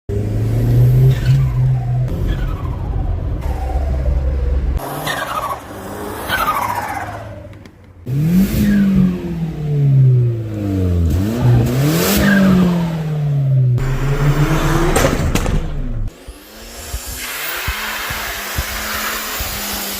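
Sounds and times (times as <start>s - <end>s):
car engine revving: 0.1s - 19.9s.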